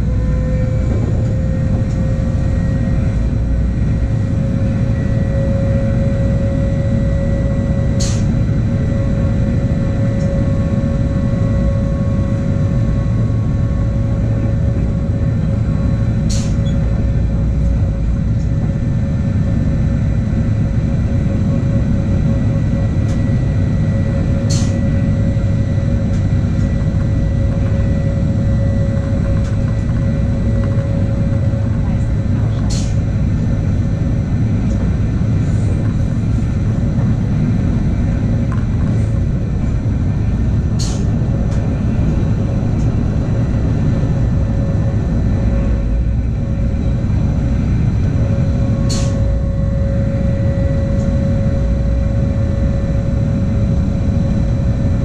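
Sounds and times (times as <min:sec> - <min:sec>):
train motor whine: 0:00.0 - 0:54.8
train wheels rumbling on track: 0:00.0 - 0:55.0.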